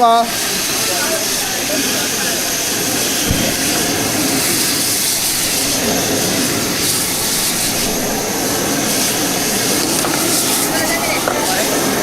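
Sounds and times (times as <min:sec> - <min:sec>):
cooking equipment rushing hiss: 0:00.0 - 0:12.0.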